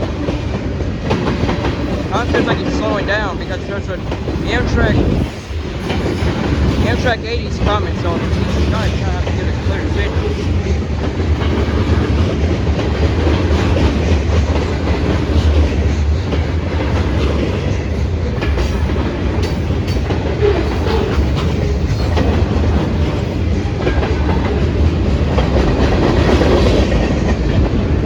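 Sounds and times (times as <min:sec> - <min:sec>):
freight train rumbling past: 0:00.0 - 0:28.0
wheels clicking over rail joints: 0:00.0 - 0:28.0.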